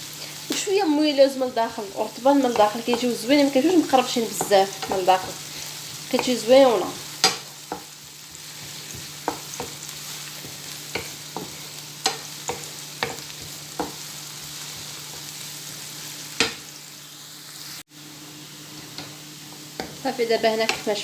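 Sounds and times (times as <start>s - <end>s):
onion sizzling in oil: 0.0s - 21.0s.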